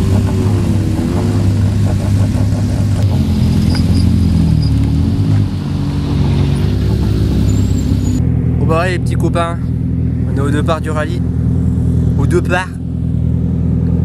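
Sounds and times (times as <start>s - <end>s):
rally car engines idling: 0.0s - 14.0s.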